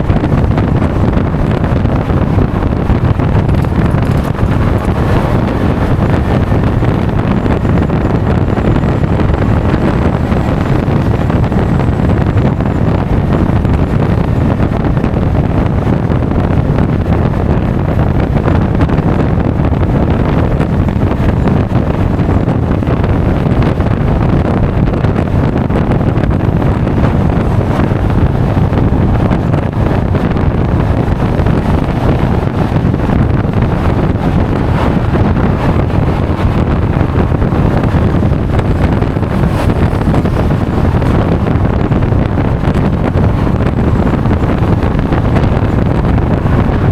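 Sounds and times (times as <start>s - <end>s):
road noise: 0.0s - 46.9s
wind buffeting microphone: 0.0s - 46.9s.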